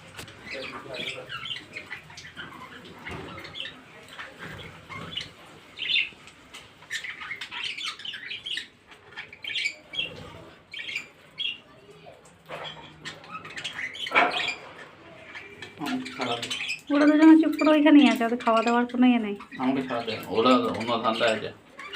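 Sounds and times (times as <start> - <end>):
budgerigars chirping and chattering: 0.0 - 21.9.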